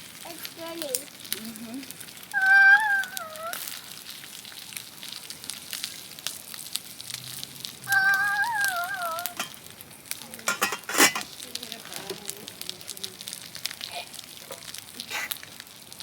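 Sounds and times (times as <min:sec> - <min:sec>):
campfire crackling and popping: 0:00.0 - 0:10.6, 0:11.2 - 0:16.0.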